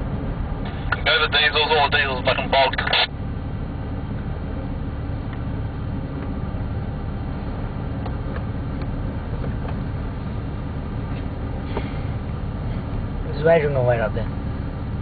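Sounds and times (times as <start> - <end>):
engine rumbling inside cabin: 0.0 - 15.0.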